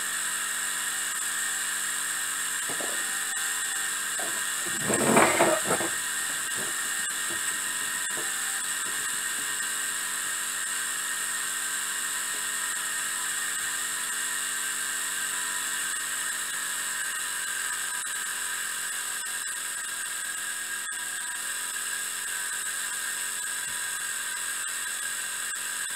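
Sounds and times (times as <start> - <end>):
miniature steam engine whirring: 0.0 - 25.9.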